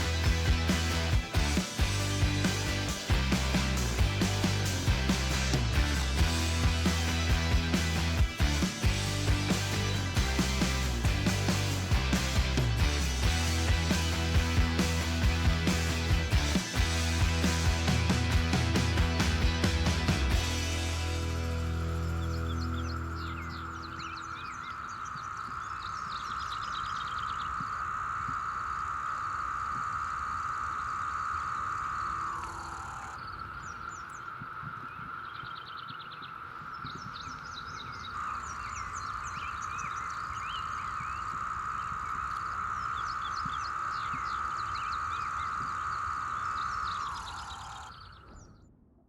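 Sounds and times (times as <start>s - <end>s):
cicadas buzzing drone: 0.0s - 48.2s
birds chirping: 0.0s - 48.7s.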